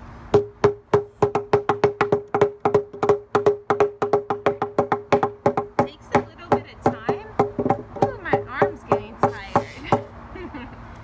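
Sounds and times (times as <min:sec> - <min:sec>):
hammers knocking on wooden table: 0:00.4 - 0:10.1.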